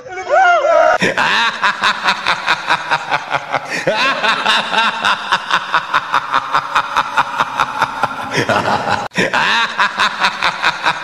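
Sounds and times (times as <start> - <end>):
person laughing: 1.0 - 11.0.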